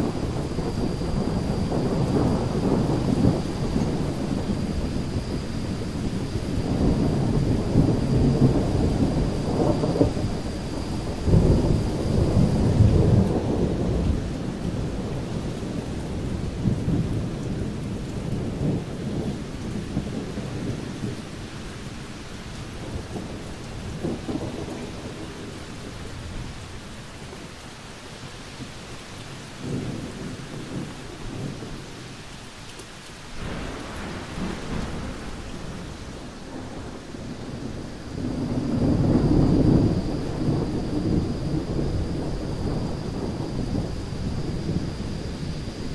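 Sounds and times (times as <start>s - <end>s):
thunder rumbling: 0.0s - 21.6s, 22.6s - 27.3s, 29.6s - 32.1s, 33.4s - 45.9s
heavy rain: 0.0s - 45.9s.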